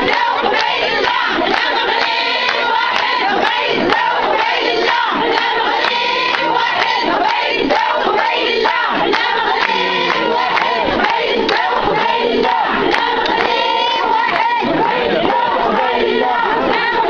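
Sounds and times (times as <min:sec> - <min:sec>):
crowd chanting and shouting: 0:00.0 - 0:17.0.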